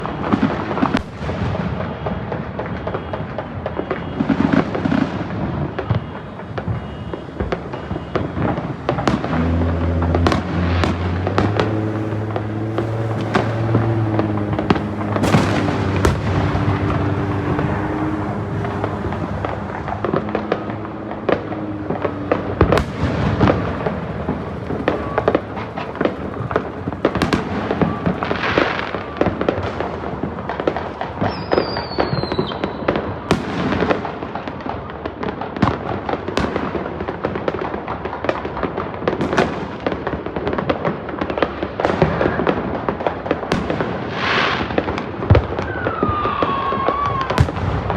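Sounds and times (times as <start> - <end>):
falling firework whistle: 0.0 - 35.2, 43.6 - 47.9
fireworks bangs and crackles: 0.0 - 47.9.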